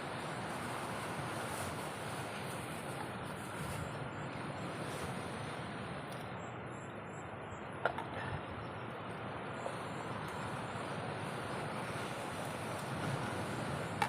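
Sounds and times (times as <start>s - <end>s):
steady rain hiss: 0.0s - 6.2s, 8.9s - 14.0s.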